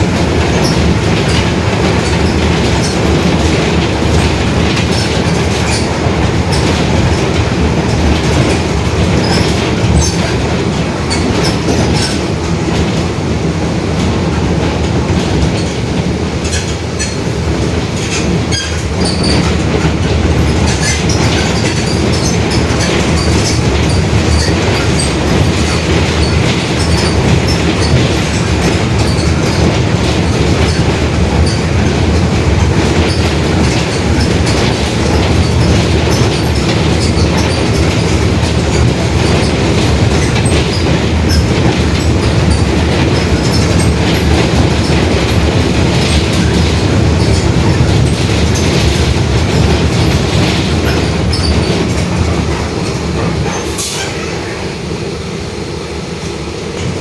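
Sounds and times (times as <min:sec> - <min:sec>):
body rattles and clicks: 0:00.0 - 0:54.0
bus engine rumbling: 0:00.0 - 0:57.0.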